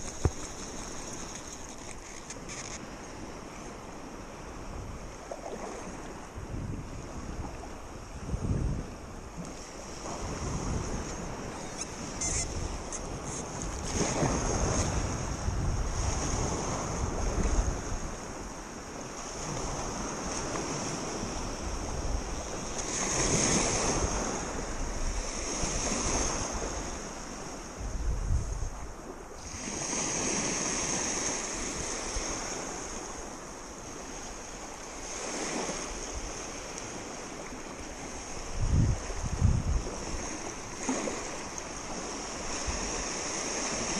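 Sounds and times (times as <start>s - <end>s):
lake waves lapping and splashing: 0.0s - 43.9s
wind buffeting microphone: 6.0s - 18.6s, 19.2s - 33.3s, 35.0s - 43.9s.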